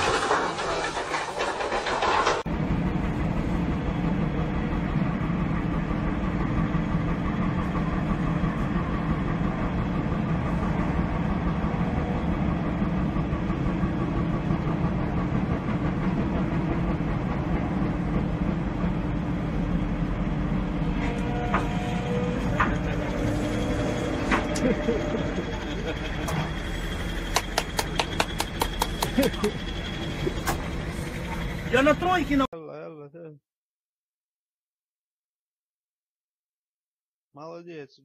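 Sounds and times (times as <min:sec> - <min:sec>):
diesel engine running: 0:00.0 - 0:32.5.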